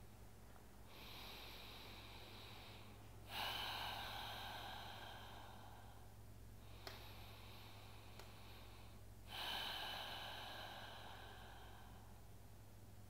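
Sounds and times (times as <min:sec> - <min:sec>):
faint low hum: 0:00.0 - 0:13.0
slow audible breathing: 0:00.8 - 0:12.9.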